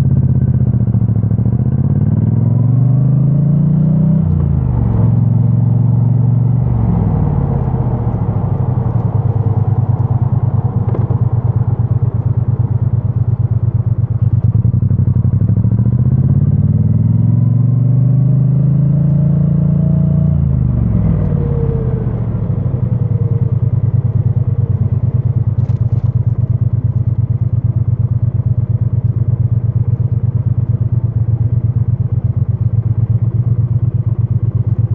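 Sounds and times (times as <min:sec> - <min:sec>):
motorcycle engine revving: 0:00.8 - 0:34.9.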